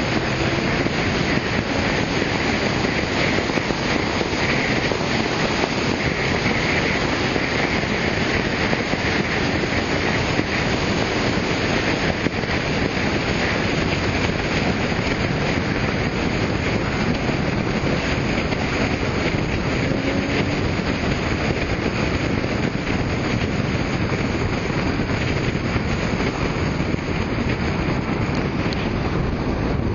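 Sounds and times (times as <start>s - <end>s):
vehicle engine running: 0.0s - 29.9s
wind on microphone: 0.0s - 29.9s.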